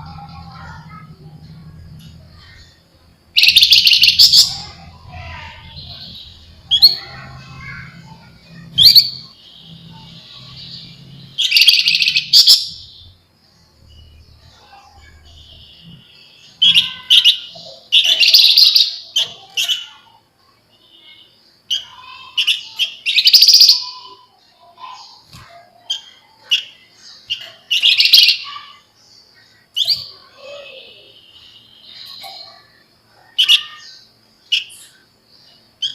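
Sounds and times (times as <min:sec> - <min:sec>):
bird singing chattering trills: 0:00.0 - 0:35.9.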